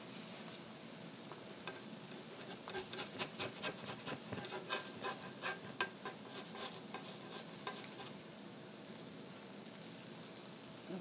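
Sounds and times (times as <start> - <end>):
tacos sizzling on griddle: 0.0 - 11.0.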